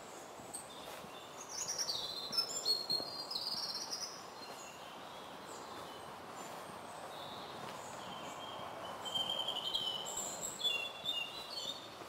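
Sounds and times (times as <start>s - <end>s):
outdoor background hiss: 0.0s - 12.0s
songbird chirps and trills: 0.1s - 12.0s.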